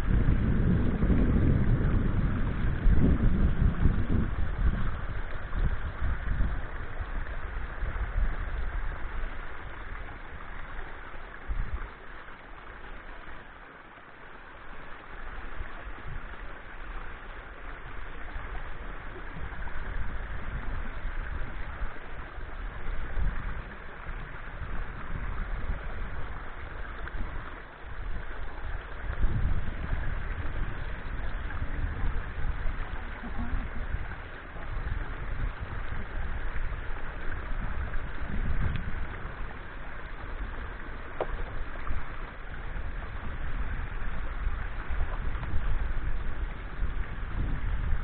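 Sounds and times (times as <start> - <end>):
wind buffeting microphone: 0.0 - 12.0, 15.3 - 48.0
steady rushing hiss: 0.0 - 48.0.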